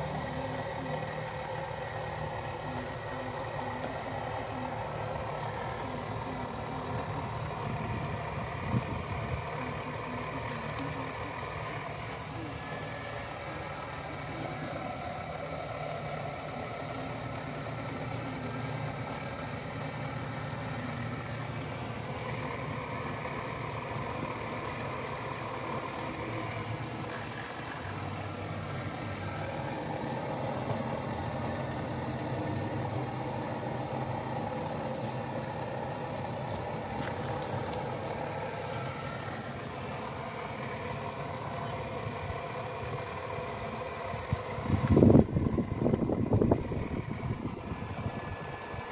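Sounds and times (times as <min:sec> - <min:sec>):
toy excavator motor hum: 0:00.0 - 0:48.9.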